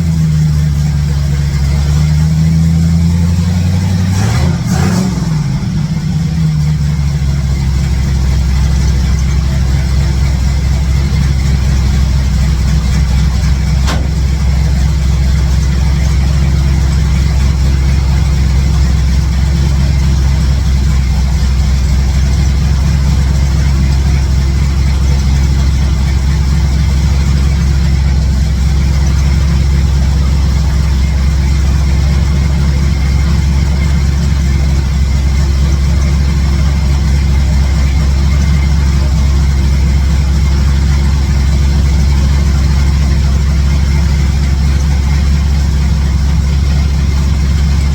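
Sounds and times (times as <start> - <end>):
pickup engine idling: 0.0 - 47.9.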